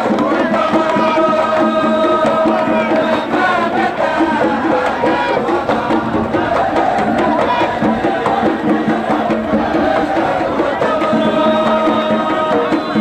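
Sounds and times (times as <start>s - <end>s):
hand drums beating: 0.0s - 13.0s
men chanting together: 0.0s - 13.0s.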